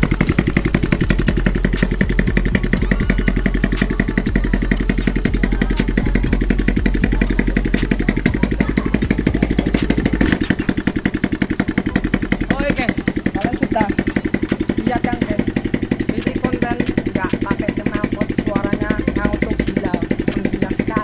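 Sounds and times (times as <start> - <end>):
motorcycle engine popping: 0.0 - 21.0.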